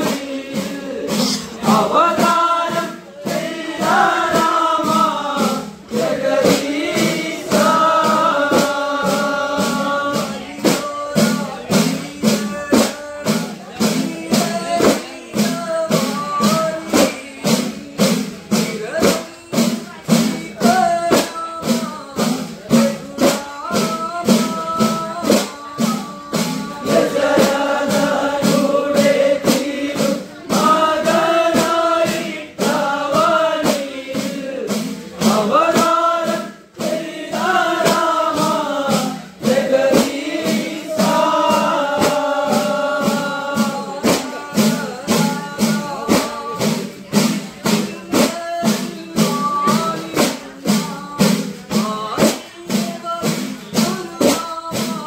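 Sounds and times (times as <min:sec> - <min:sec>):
men singing devotional song: 0:00.0 - 0:55.0.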